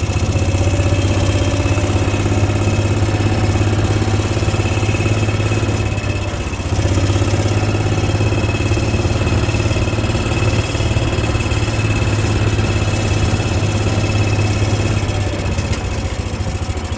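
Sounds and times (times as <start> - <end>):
vehicle engine running: 0.0 - 16.9.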